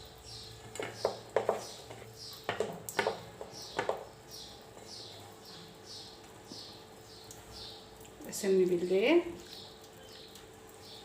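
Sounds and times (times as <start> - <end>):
bird chirping: 0.2 - 7.8, 9.4 - 11.0.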